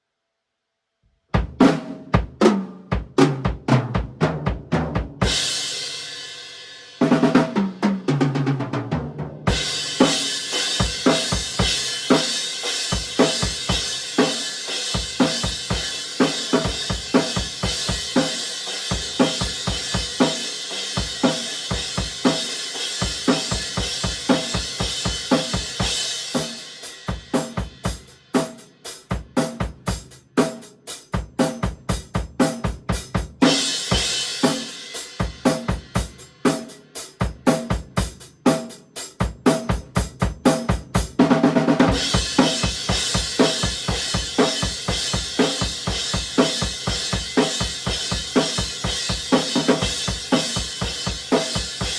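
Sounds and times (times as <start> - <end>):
rock drum beat: 1.3 - 51.9.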